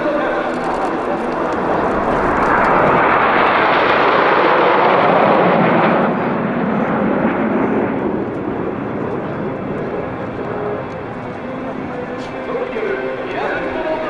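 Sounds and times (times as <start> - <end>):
jet flying past: 0.0 - 14.0.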